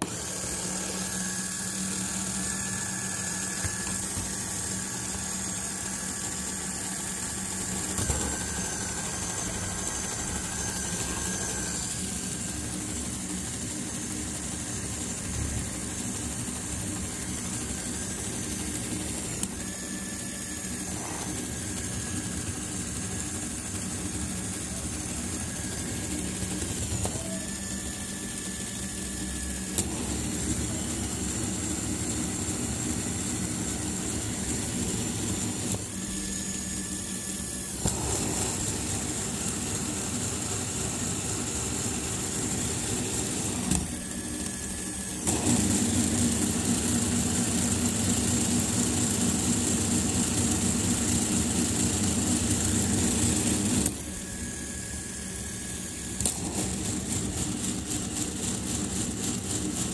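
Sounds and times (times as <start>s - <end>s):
model engine whirring and clattering: 0.0s - 54.1s, 56.2s - 59.9s.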